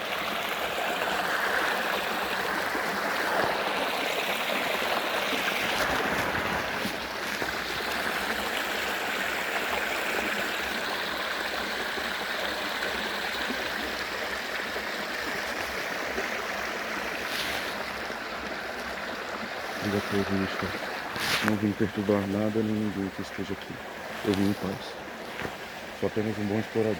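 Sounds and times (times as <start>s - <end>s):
running water: 0.0s - 26.9s.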